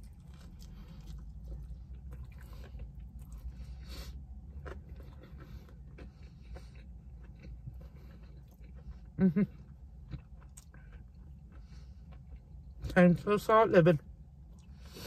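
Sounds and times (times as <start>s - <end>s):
person chewing: 0.0s - 12.9s
low hum: 0.0s - 15.0s.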